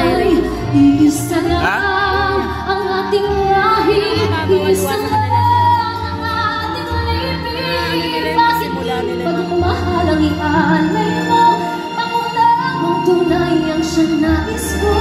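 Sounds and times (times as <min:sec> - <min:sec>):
women singing: 0:00.0 - 0:15.0.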